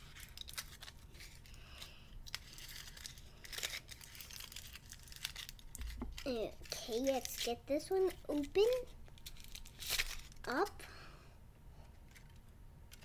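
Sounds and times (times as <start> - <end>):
candy wrapper crinkling: 0.0 - 10.9.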